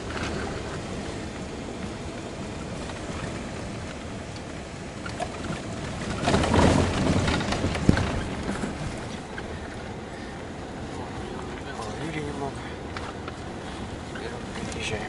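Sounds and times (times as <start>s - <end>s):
car and tyres rumbling: 0.0s - 15.0s
car rattling: 0.0s - 15.0s.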